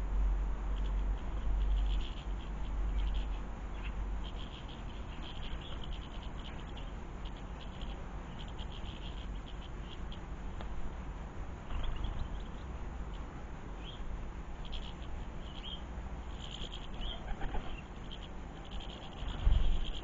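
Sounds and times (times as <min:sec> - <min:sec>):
steady background hiss: 0:00.0 - 0:20.0
small birds chirping: 0:00.7 - 0:10.7, 0:11.6 - 0:20.0.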